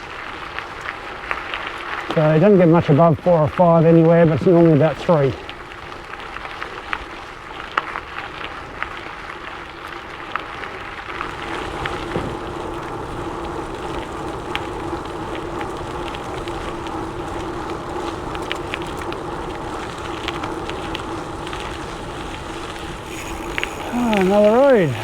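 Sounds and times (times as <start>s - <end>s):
bike tyres crunching on gravel: 0.0s - 25.0s.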